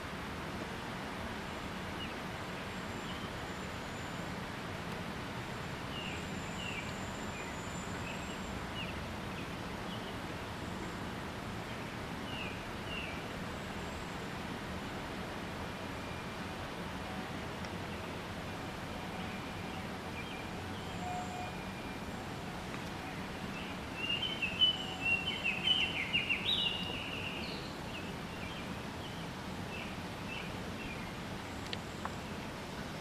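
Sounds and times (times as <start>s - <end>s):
outdoor background noise: 0.0s - 33.0s.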